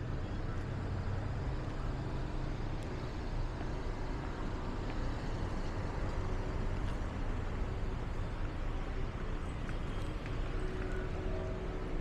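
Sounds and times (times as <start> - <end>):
cars passing on road: 0.0 - 12.0.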